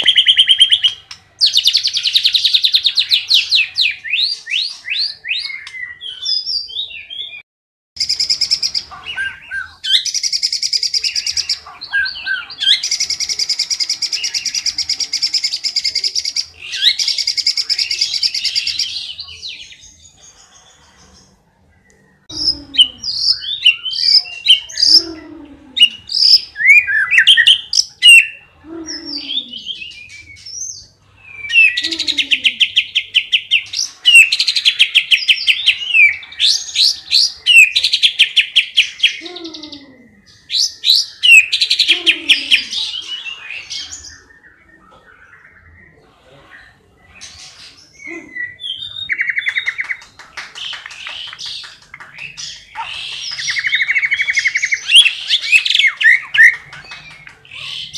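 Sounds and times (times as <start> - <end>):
bird singing trills and whistles: 0.0 - 7.4, 8.0 - 46.1, 46.7 - 57.9.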